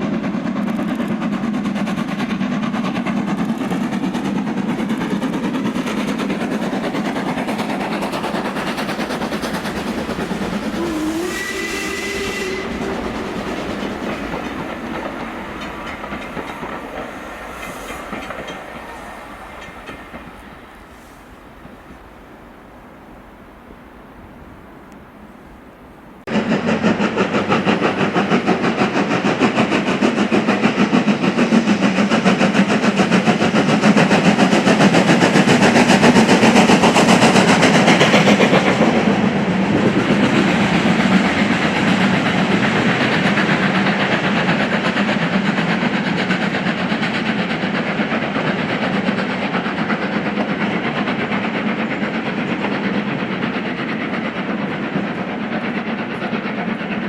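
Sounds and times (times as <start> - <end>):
steam train running past: 0.0 - 57.0.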